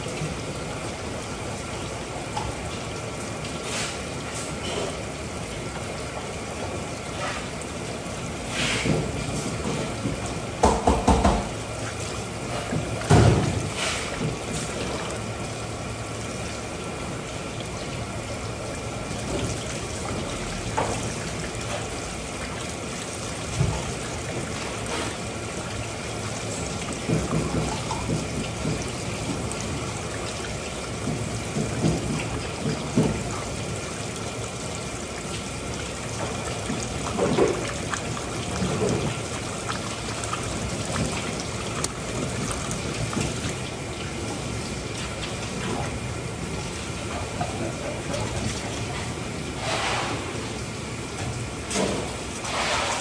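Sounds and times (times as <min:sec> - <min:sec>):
water running and trickling: 0:00.0 - 0:53.0.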